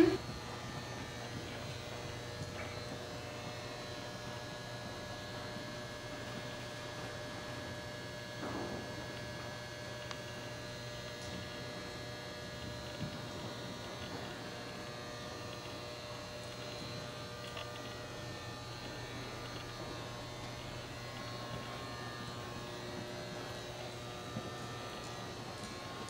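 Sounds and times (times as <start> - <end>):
low hum and buzz: 0.0 - 26.0.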